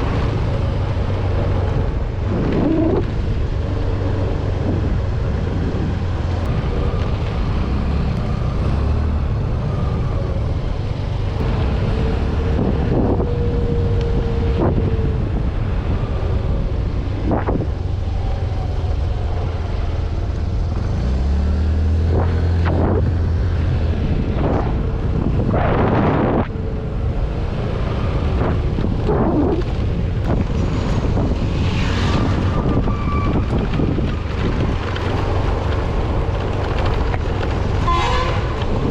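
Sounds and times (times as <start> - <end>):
wind buffeting microphone: 0.0 - 21.2, 21.8 - 38.9.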